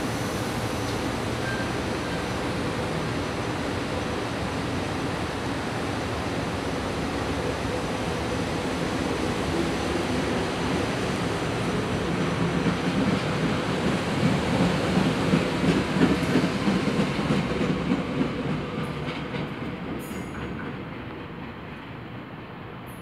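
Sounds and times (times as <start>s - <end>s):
train wheels rumbling over rails: 0.0s - 22.9s.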